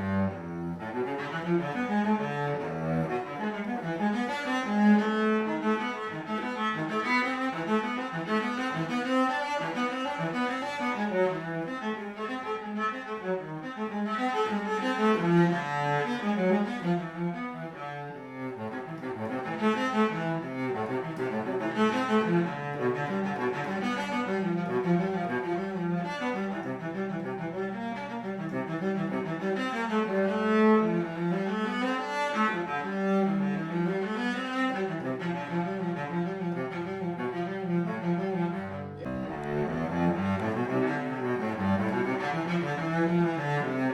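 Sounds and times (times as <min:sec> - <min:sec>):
cello bowed: 0:00.0 - 0:43.9.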